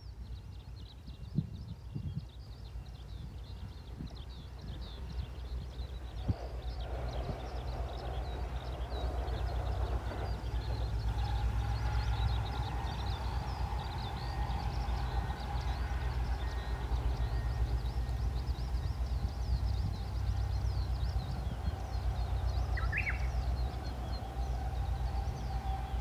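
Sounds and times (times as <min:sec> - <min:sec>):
birds chirping: 0:00.0 - 0:26.0
wind rumbling on microphone: 0:00.0 - 0:26.0.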